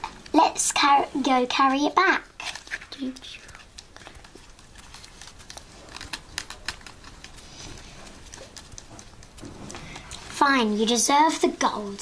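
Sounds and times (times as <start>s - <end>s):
cardboard puppets clicking and scraping: 0.0s - 12.0s.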